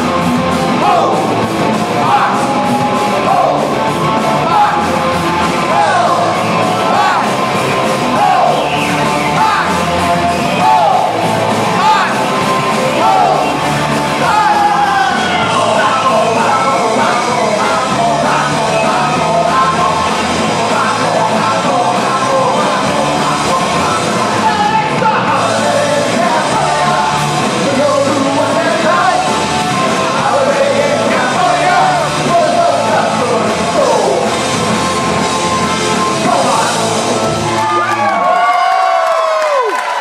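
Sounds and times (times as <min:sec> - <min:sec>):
punk rock band playing: 0:00.0 - 0:38.6
singer shouting vocals: 0:00.7 - 0:12.3, 0:12.9 - 0:34.4, 0:36.1 - 0:39.7.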